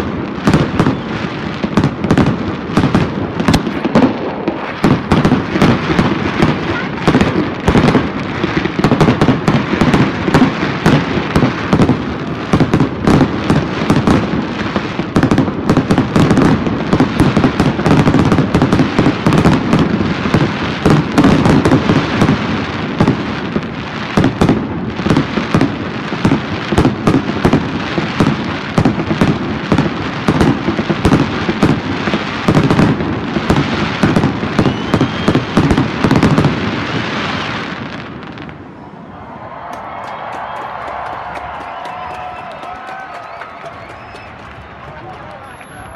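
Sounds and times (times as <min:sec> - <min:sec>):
fireworks bursting with bangs: 0:00.0 - 0:38.9, 0:39.6 - 0:45.9
fireworks crackling: 0:00.0 - 0:45.9.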